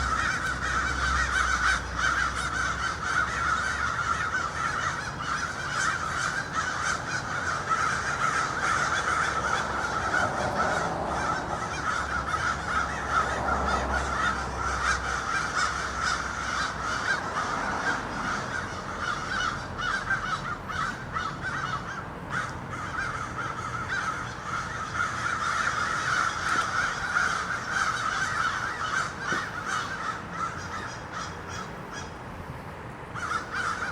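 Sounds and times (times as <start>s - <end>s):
crows cawing: 0.0s - 33.9s.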